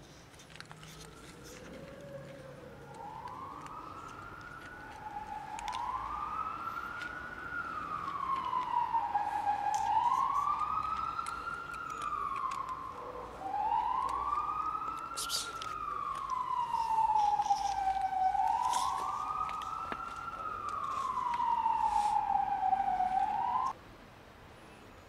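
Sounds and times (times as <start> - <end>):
emergency vehicle siren wailing: 0.4 - 23.8.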